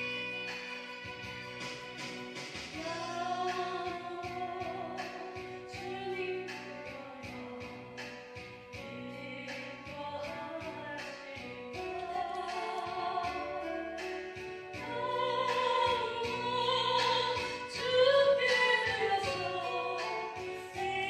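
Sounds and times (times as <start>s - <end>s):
instrumental accompaniment: 0.0s - 21.0s
woman singing into microphone: 0.0s - 21.0s.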